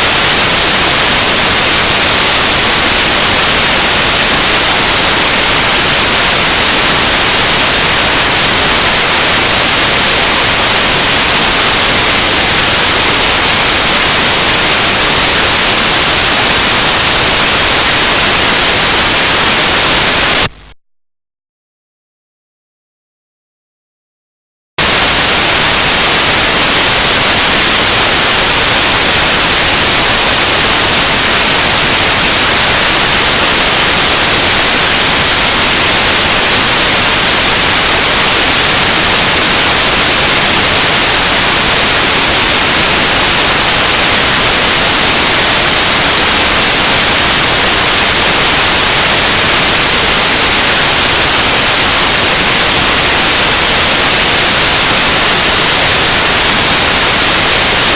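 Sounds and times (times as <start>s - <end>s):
harsh noise music static hiss: 0.0s - 20.8s, 24.8s - 57.9s.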